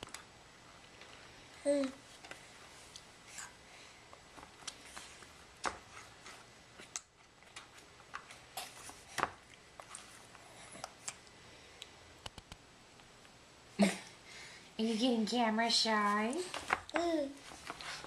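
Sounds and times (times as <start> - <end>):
toddler eating smacks and clicks: 0.0 - 13.2, 16.3 - 18.0.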